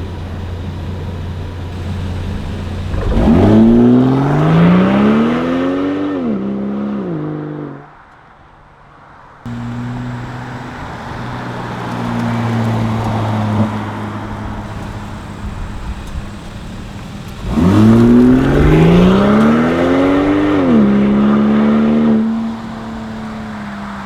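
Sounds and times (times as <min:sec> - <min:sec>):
car exhaust note: 0:00.0 - 0:06.6, 0:09.5 - 0:24.0.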